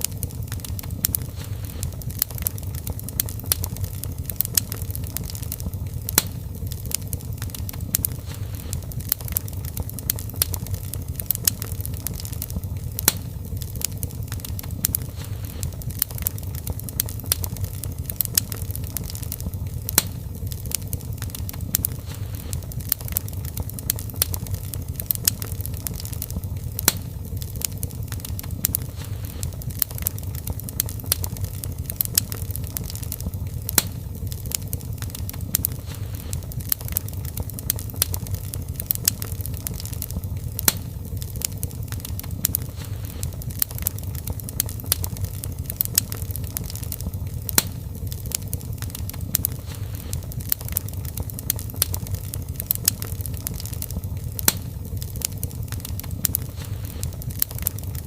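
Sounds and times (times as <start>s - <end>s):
fire crackling with pops: 0.0s - 58.0s
low rumble of flames: 0.0s - 58.0s.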